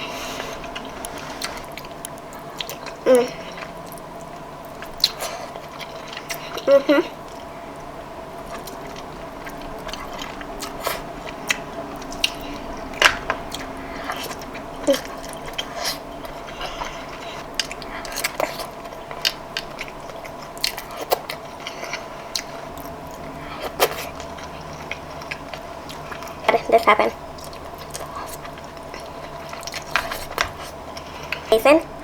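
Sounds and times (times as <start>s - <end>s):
faint steady hum: 0.0s - 32.0s
person chewing seafood: 0.0s - 32.0s.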